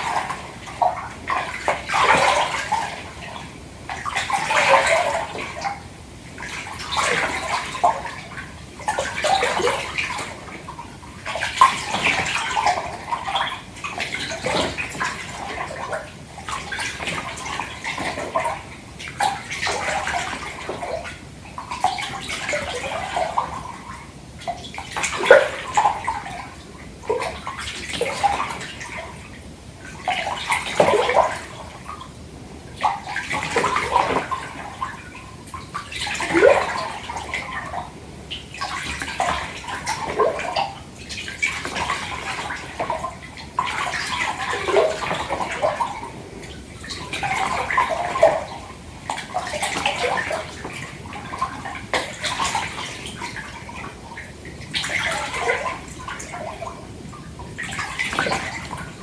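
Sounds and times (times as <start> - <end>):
water splash: 0.0 - 32.0, 32.7 - 59.0
bath water sloshing: 0.0 - 59.0
bubbly gurgles: 0.0 - 59.0.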